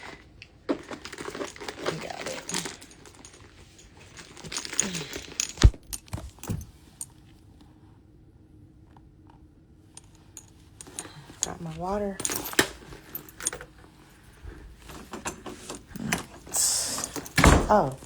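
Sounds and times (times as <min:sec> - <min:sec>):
rustling with clicks and jingles: 0:00.0 - 0:07.2, 0:10.0 - 0:18.0.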